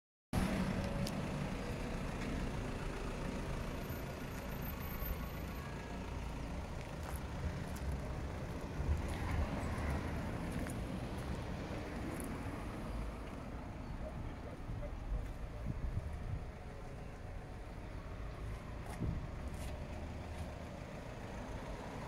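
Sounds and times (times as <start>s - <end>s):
low rumble of vehicle noise: 0.4s - 22.0s.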